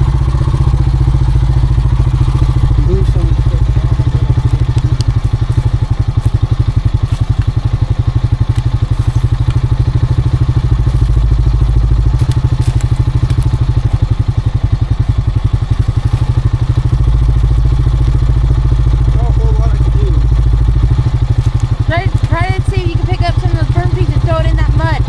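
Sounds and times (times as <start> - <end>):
atv engine idling: 0.0 - 25.0.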